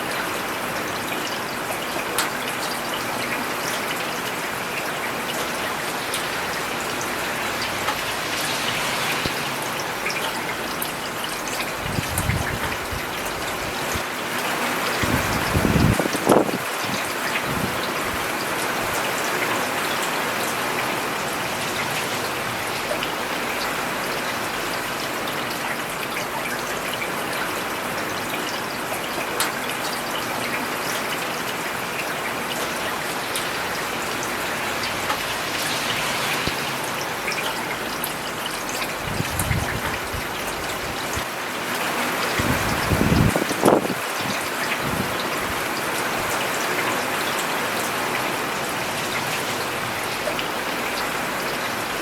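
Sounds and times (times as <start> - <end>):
rain falling on a road: 0.0 - 52.0.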